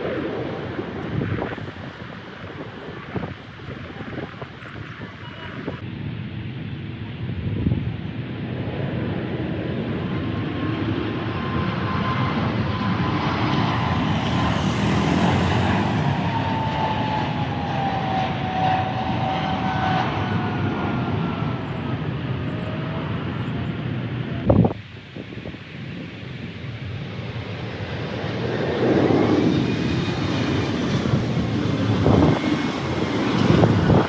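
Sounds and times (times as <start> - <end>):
jet airliner engine passing: 0.0 - 34.0.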